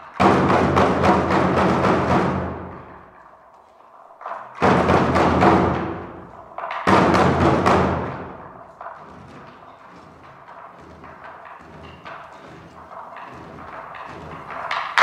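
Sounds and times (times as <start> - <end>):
large drums struck: 0.2 - 3.2, 4.5 - 15.0.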